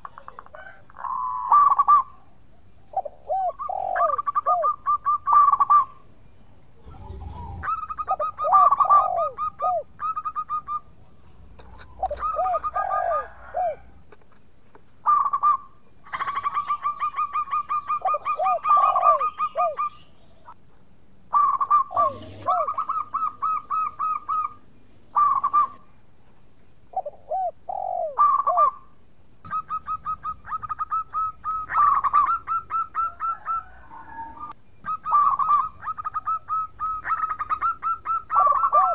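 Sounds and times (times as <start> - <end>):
zebra dove singing: 0.0 - 6.1, 6.8 - 13.9, 15.0 - 20.6, 21.3 - 25.9, 26.9 - 38.9.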